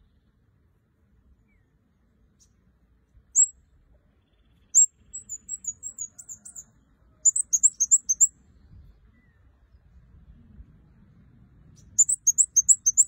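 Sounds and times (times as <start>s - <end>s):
songbird chirping and twittering: 0.0s - 13.0s.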